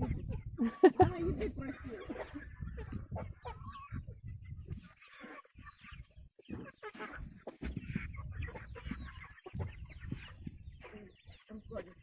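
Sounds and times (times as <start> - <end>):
chickens clucking and squawking: 0.0 - 12.0.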